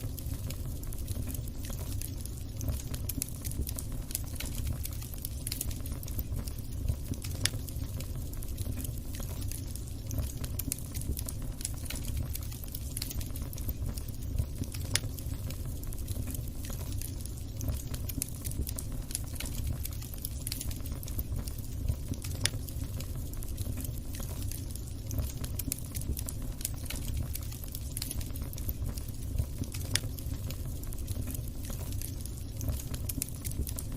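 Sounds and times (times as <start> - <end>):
low rumble of flames: 0.0 - 33.9
wood fire crackling: 0.0 - 33.9.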